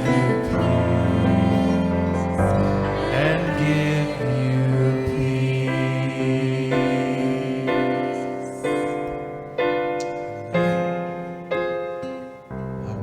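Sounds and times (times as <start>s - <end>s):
keyboard playing slow piano chords: 0.0s - 13.0s.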